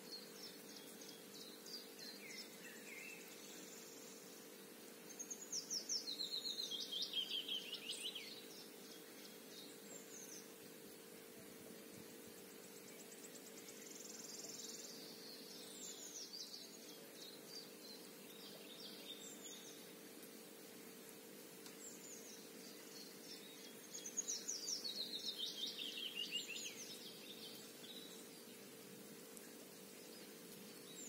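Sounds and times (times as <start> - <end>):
faint steady hum: 0.0 - 31.0
songbirds chirping: 0.0 - 31.0.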